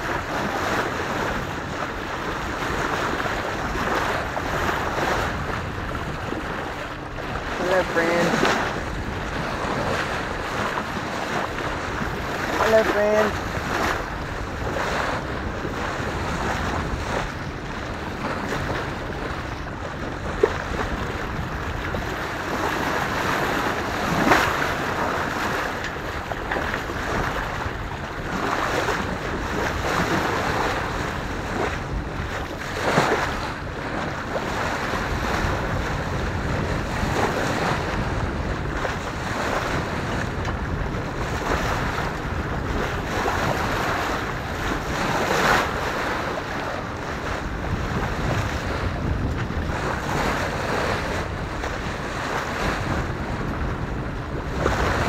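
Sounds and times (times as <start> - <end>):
water rushing along hull: 0.0 - 55.0
wind buffeting microphone: 0.0 - 55.0.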